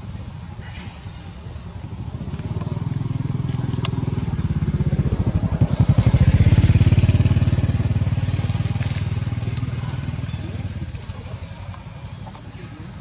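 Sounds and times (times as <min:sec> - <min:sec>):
small engine running: 0:01.3 - 0:11.8.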